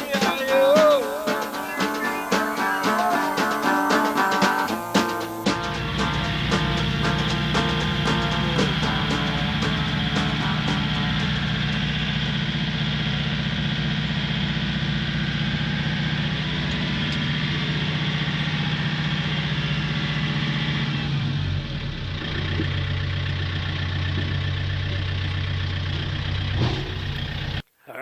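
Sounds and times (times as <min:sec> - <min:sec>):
tractor engine running: 0:00.0 - 0:27.7.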